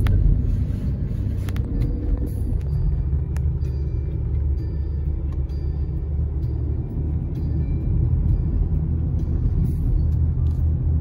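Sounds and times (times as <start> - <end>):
tyre and engine rumble: 0.0 - 11.0.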